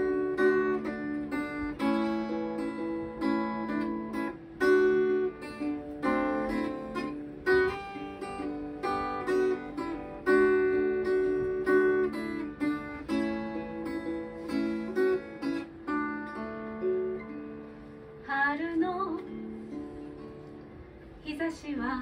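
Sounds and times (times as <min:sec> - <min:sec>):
acoustic guitar strumming chords: 0:00.0 - 0:21.2.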